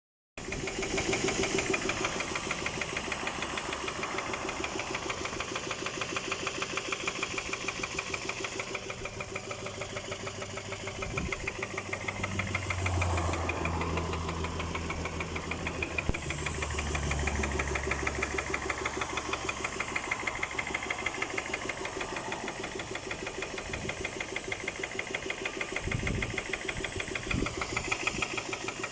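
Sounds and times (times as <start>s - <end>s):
engine running with rhythmic knock: 0.4s - 28.9s.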